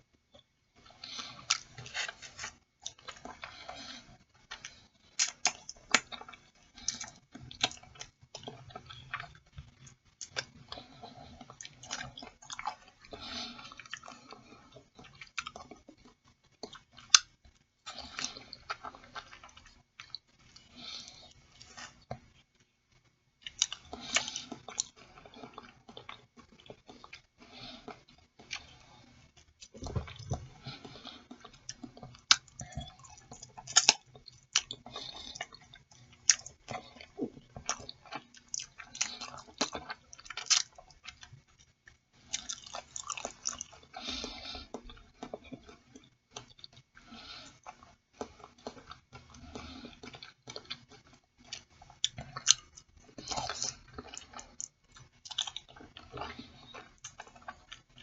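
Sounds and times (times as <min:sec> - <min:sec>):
wet chewing with clicks: 0:00.3 - 0:58.0.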